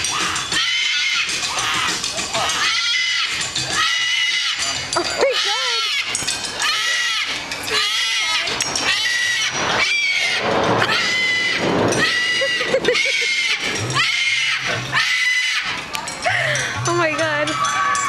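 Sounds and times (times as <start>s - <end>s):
bird calling harshly: 0.0s - 15.9s.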